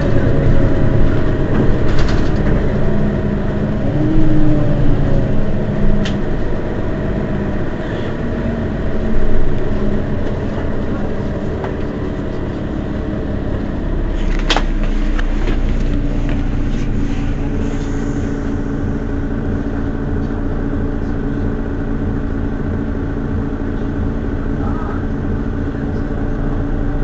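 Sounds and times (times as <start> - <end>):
bus engine idling: 0.0 - 27.0
steady hum: 0.0 - 27.0.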